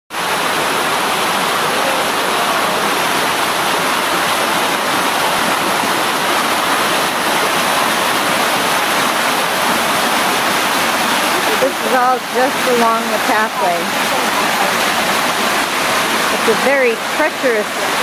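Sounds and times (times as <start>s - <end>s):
stream rushing over rock: 0.1s - 18.0s.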